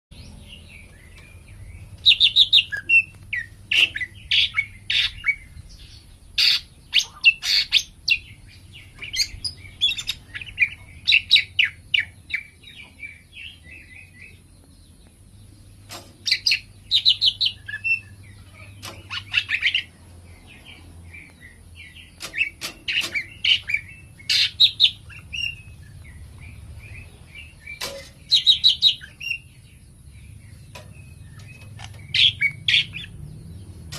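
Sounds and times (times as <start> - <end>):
bird singing rapid phrases: 0.1 - 33.9.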